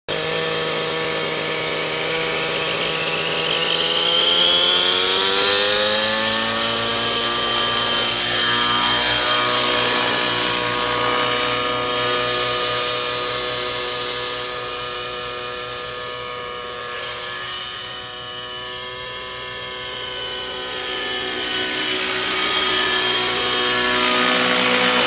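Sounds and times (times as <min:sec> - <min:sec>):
model helicopter engine at high revs: 0:00.1 - 0:25.0.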